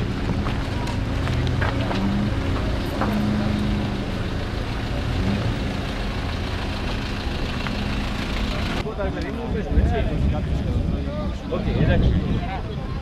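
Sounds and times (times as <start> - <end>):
car engines running: 0.0 - 11.7.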